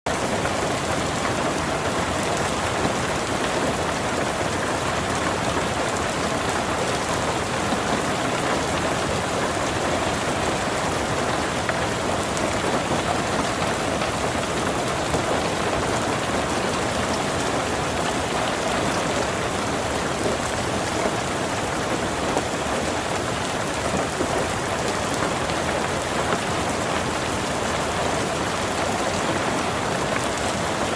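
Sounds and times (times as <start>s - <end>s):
rain patter on leaves: 0.1s - 30.9s.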